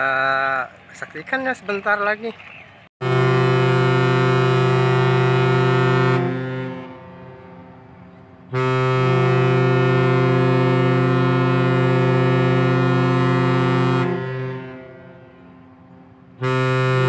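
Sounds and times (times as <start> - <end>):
deep ship horn blasts: 3.0 - 17.0.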